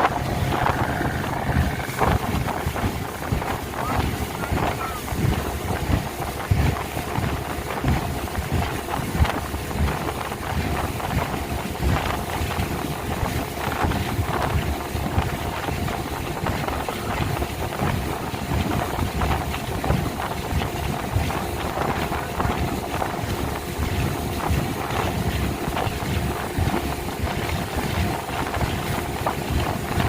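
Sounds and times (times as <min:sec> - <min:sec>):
rushing water: 0:00.0 - 0:30.0
speedboat engine whine: 0:00.0 - 0:30.0
wind buffeting microphone: 0:00.0 - 0:30.0.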